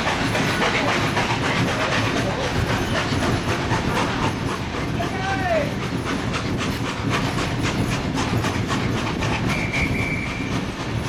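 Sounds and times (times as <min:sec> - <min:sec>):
steam train rumble: 0:00.0 - 0:11.0
wheels clattering: 0:00.0 - 0:11.0.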